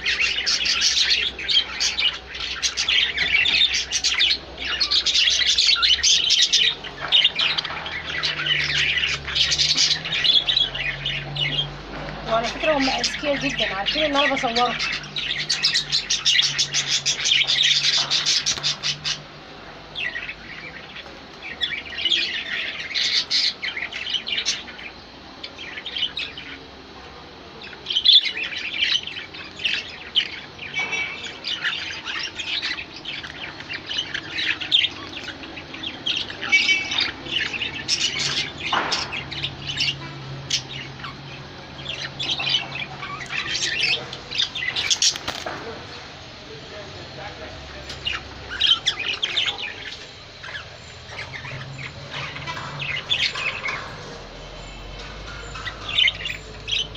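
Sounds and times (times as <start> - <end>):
small birds chirping and squawking: 0.0 - 56.9.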